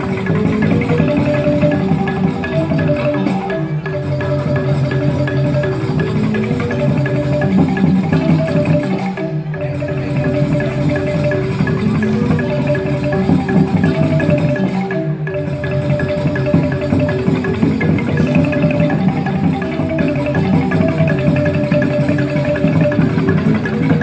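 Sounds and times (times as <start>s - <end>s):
bamboo xylophones ringing: 0.0s - 24.0s
percussion: 0.0s - 24.0s.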